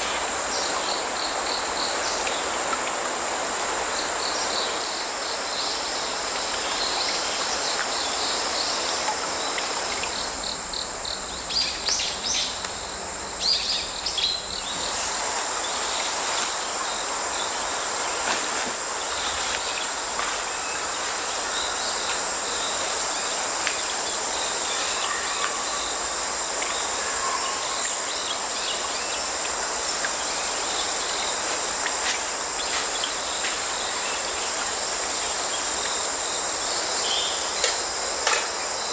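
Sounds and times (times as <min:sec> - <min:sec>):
creek flowing: 0:00.0 - 0:11.0, 0:12.8 - 0:38.9
crickets and insects trilling: 0:00.0 - 0:38.9.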